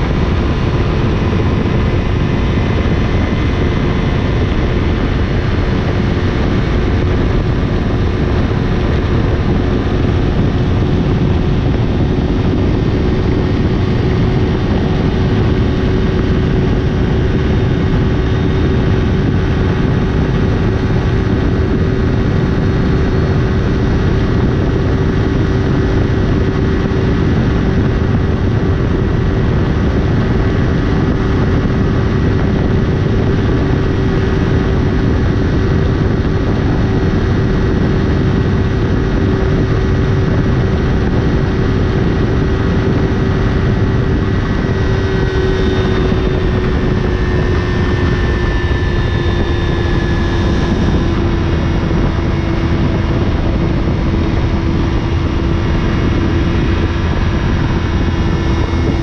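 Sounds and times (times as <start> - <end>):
motorcycle engine droning: 0.0 - 59.0
wind rush on microphone: 0.0 - 59.0.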